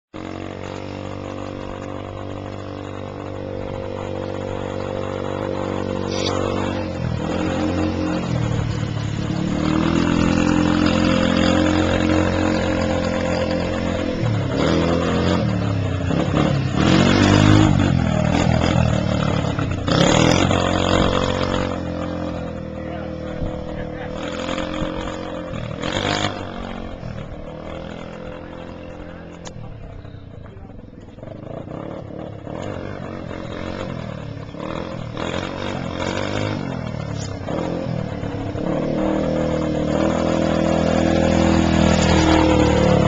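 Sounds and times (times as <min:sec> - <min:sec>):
quad engine revving: 0:00.2 - 0:43.0.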